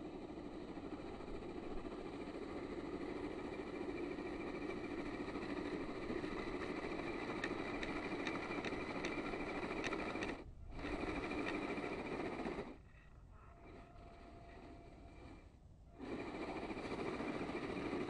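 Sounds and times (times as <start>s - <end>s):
electric motor whining: 3.1s - 18.0s.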